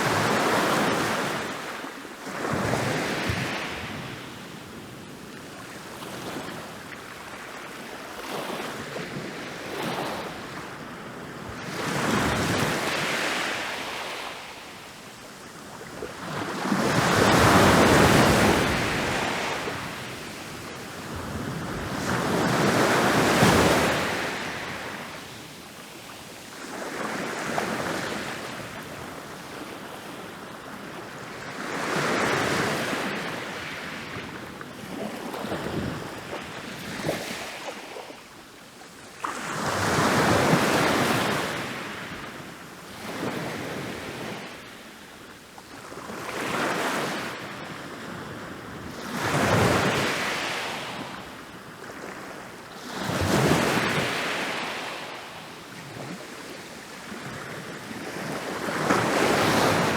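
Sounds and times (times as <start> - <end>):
ocean waves breaking on beach: 0.0 - 38.3, 45.7 - 59.9.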